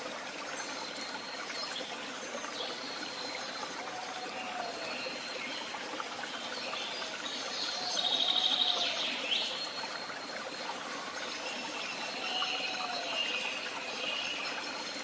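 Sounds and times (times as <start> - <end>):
birds singing and calling: 0.6 - 15.0.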